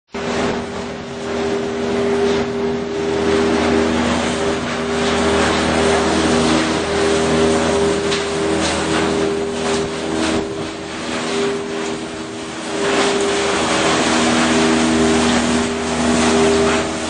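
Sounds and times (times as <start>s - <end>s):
conveyor machinery droning: 0.1s - 17.0s.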